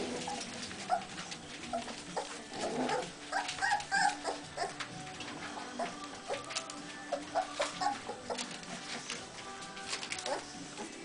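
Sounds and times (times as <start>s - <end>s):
paws scrabbling on newspaper: 0.0s - 11.0s
puppies whimpering and yipping: 0.0s - 11.0s.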